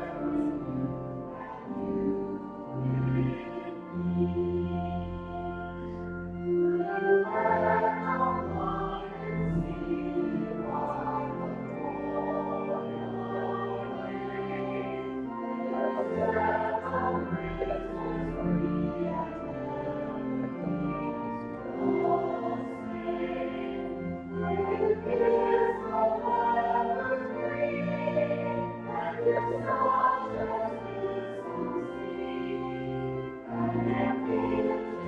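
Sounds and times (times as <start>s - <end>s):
choir singing: 0.0s - 35.0s
instrumental accompaniment: 0.0s - 35.0s.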